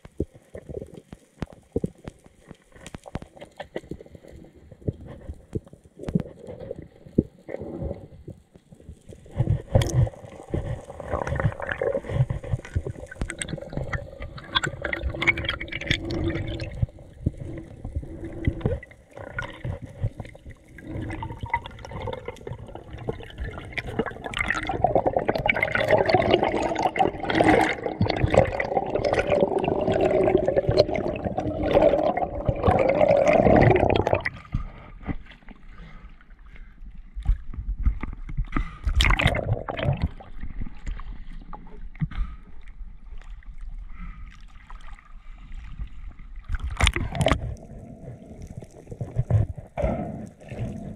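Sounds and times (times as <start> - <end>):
gurgling rushing water underwater: 0.0 - 50.9.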